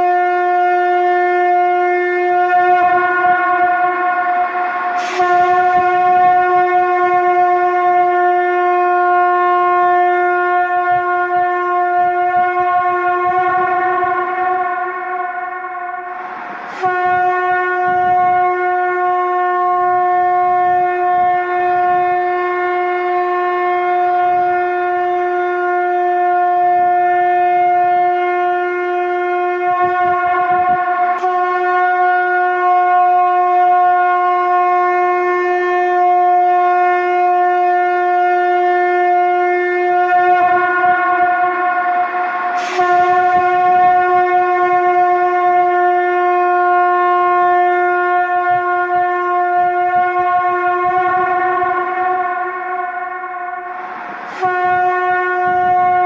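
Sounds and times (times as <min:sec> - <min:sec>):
conch shell blasts: 0:00.0 - 0:56.0.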